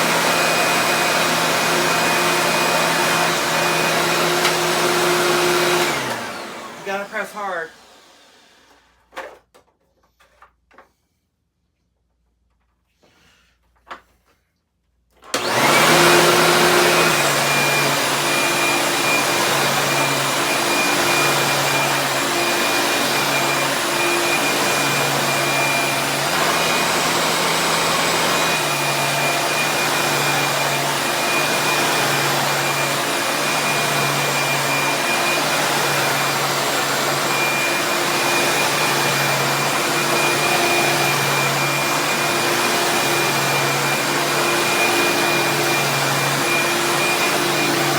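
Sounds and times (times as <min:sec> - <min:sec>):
vacuum cleaner running: 0:00.0 - 0:09.0, 0:15.2 - 0:47.9.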